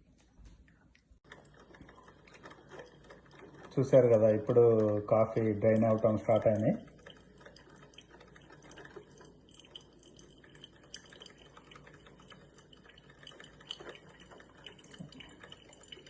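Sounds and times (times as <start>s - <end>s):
coffee dripping into carafe: 1.2s - 16.0s.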